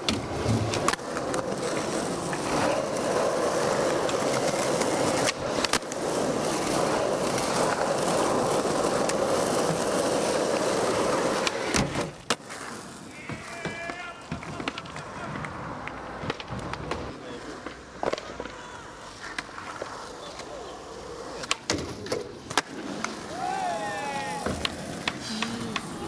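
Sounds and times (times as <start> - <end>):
skateboard popping and landing: 0.0 - 26.0
skateboard wheels rolling on asphalt: 0.0 - 26.0.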